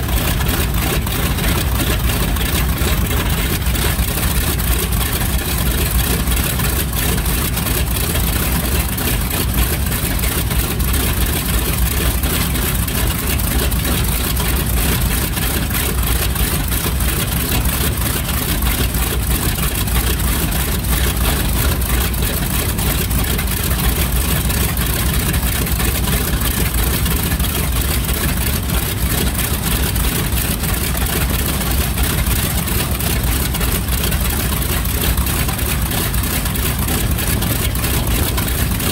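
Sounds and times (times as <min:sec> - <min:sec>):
radial aircraft engine idling: 0:00.0 - 0:38.9.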